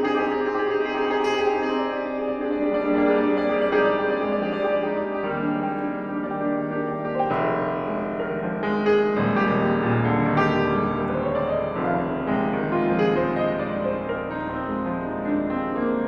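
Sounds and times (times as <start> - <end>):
solo grand piano: 0.0 - 16.0.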